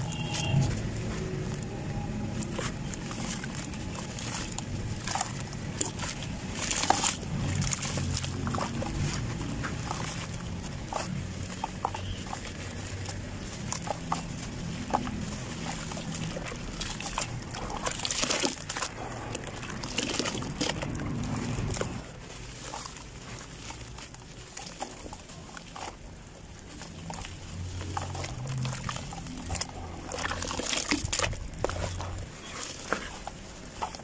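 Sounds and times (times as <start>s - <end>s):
sand-cement crumbling and crunching: 0.0s - 34.0s.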